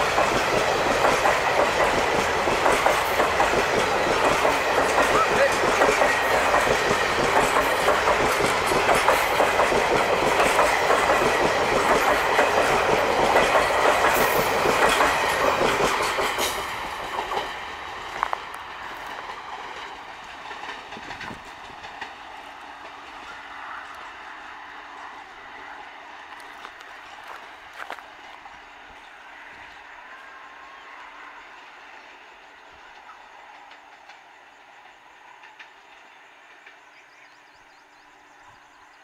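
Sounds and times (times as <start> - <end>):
train wheels clattering on track: 0.0 - 38.5
receding train rumble: 0.0 - 39.0.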